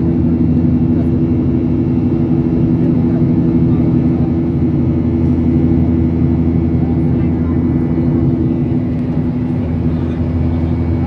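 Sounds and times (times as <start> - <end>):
loud engine drone: 0.0 - 11.0.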